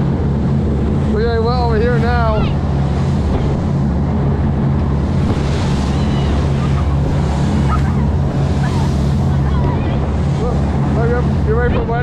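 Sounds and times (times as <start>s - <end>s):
boat engine drone: 0.0s - 12.0s
hull splashing through water: 0.0s - 12.0s
wind buffeting microphone: 0.0s - 12.0s.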